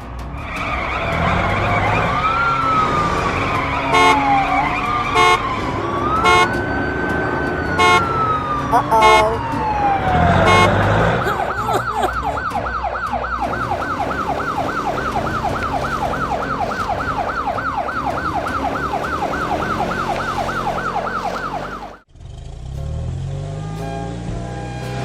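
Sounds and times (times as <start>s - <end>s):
siren yelping: 1.1s - 22.0s.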